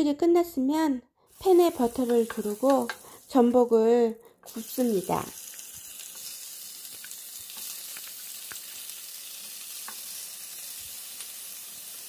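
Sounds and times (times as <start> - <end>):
food sizzling in butter: 1.3 - 3.8, 4.5 - 12.0.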